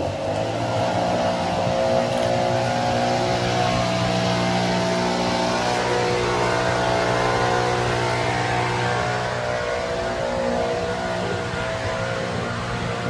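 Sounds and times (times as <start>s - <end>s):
large engine humming: 0.0s - 13.0s.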